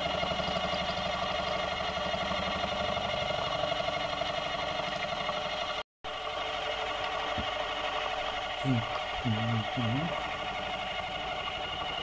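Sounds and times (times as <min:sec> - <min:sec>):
milling machine running: 0:00.0 - 0:12.0.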